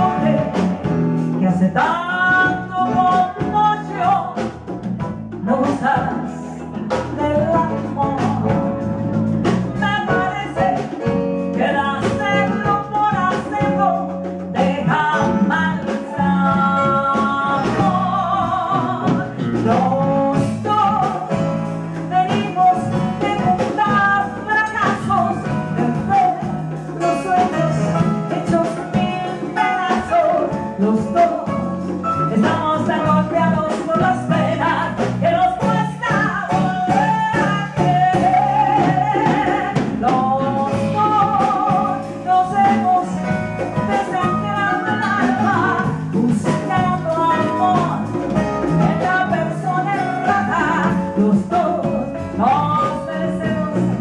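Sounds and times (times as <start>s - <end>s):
live band playing: 0.0s - 54.0s
woman singing into a microphone: 0.0s - 54.0s.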